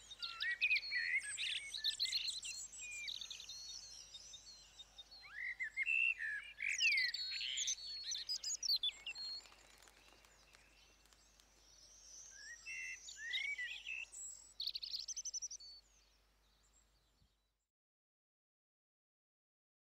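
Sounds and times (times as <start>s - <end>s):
birds chirping and singing: 0.0s - 16.1s.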